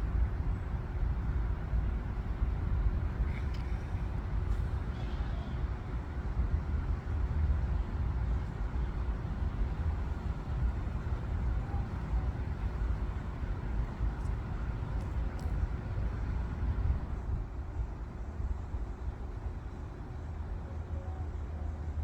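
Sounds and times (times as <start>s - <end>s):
faint hum: 0.0s - 22.0s
low outdoor rumble: 0.0s - 22.0s.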